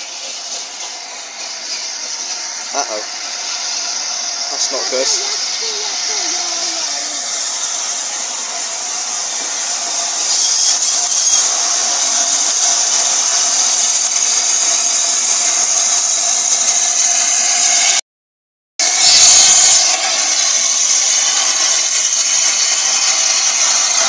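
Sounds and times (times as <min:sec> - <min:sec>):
steam locomotive hiss: 0:00.0 - 0:18.0, 0:18.8 - 0:24.0.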